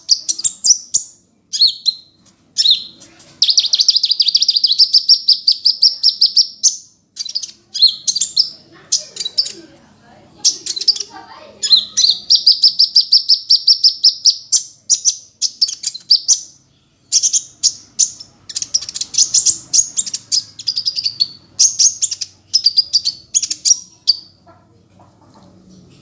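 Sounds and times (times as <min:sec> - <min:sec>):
songbird chirping and trilling: 0:00.0 - 0:26.0.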